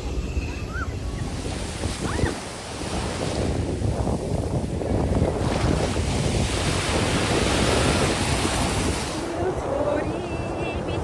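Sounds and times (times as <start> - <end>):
ocean surf washing on beach: 0.0 - 11.0
wind buffeting microphone: 0.0 - 11.0.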